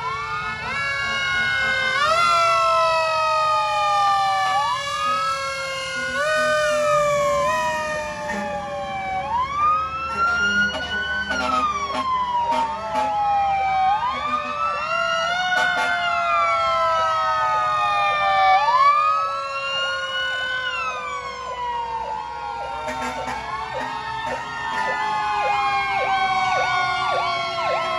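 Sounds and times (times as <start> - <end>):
fire truck sirens wailing: 0.0 - 27.9.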